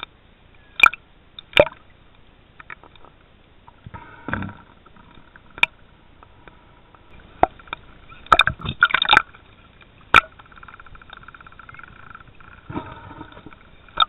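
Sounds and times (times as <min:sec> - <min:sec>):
underwater clattering: 0:02.6 - 0:14.0
underwater clicks and knocks: 0:02.6 - 0:14.0.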